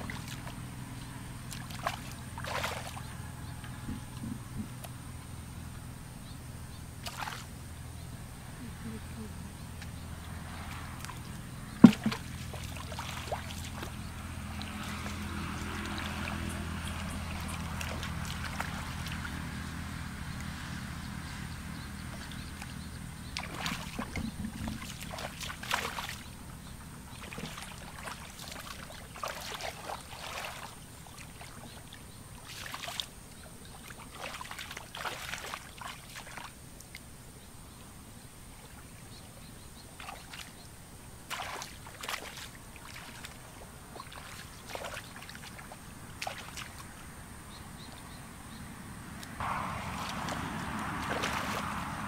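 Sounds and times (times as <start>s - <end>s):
bare feet splashing in muddy water: 0.0s - 5.0s, 7.0s - 7.8s, 8.5s - 37.1s, 39.8s - 48.2s, 49.2s - 52.0s.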